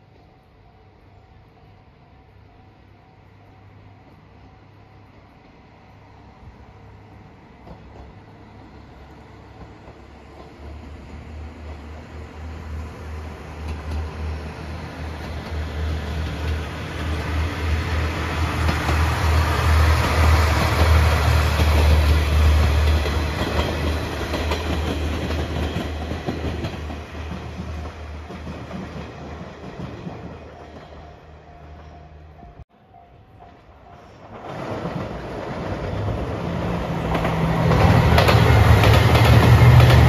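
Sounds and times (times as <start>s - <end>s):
train wheels on rails: 0.0s - 40.0s.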